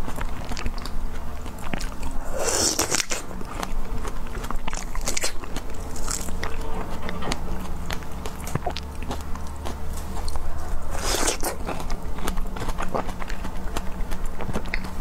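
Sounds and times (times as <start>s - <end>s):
wet biting and chewing: 0.0s - 15.0s.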